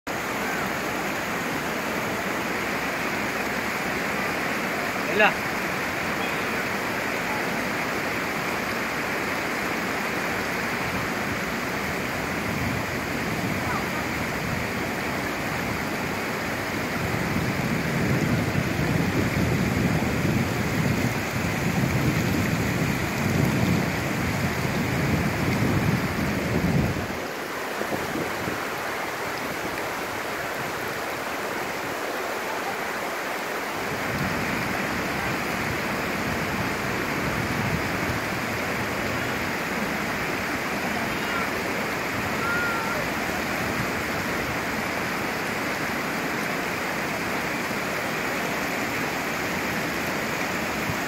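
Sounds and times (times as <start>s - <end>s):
creek water flowing: 0.1s - 51.0s.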